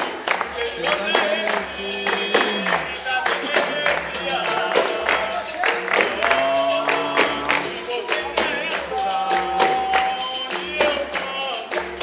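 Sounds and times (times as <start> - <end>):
person singing: 0.2 - 12.0
pulsing bass line: 0.5 - 12.0.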